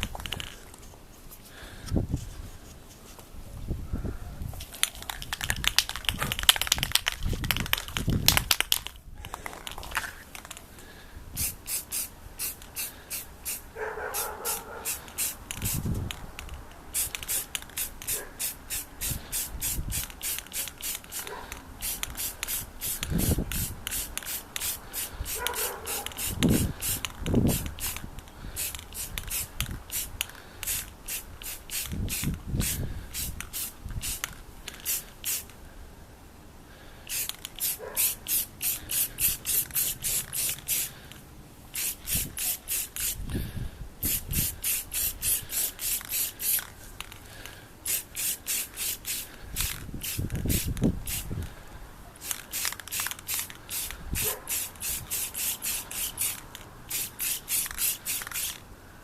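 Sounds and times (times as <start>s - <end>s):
spray paint can bursts: 4.6s - 10.6s, 11.4s - 35.6s, 37.1s - 43.3s, 44.0s - 51.4s, 52.2s - 58.6s.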